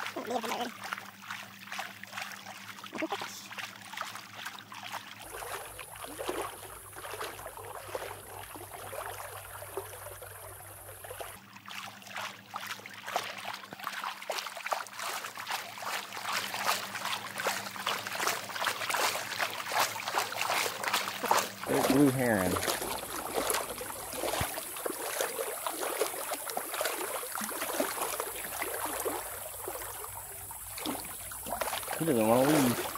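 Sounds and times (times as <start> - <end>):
flowing river water: 0.0 - 32.9
legs wading splashing in water: 0.0 - 32.9.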